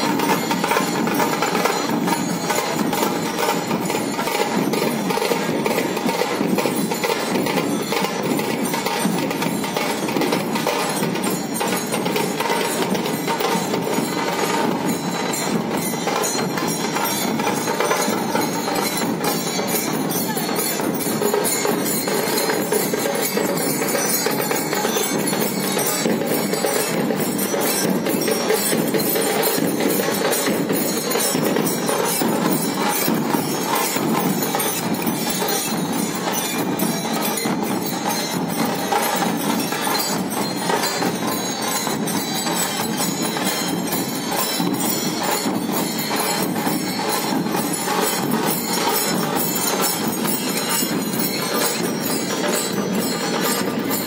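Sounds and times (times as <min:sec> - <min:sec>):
barrel drums beaten continuously: 0:00.0 - 0:54.0.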